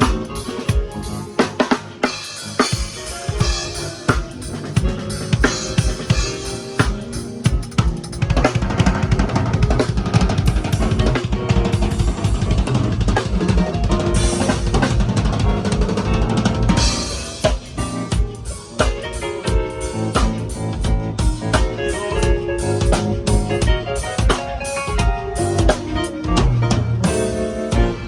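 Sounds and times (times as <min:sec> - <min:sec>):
drum kit playing: 0:00.0 - 0:28.0.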